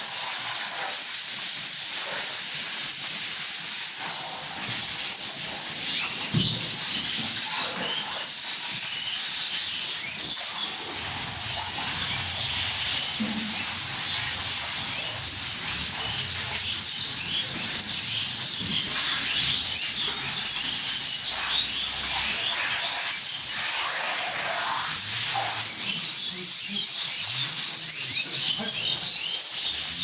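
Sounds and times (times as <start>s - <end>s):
small birds chirping: 0.0s - 30.0s
steady high-pitched hiss: 0.0s - 30.0s.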